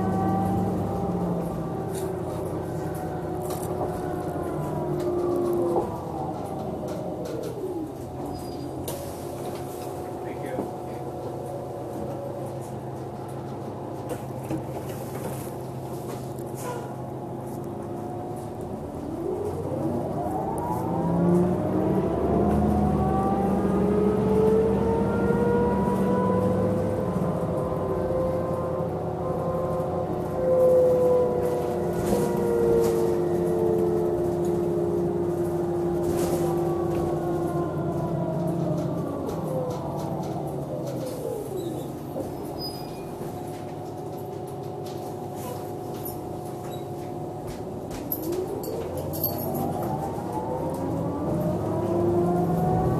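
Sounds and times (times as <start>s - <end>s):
bus diesel engine accelerating: 0.0s - 52.9s.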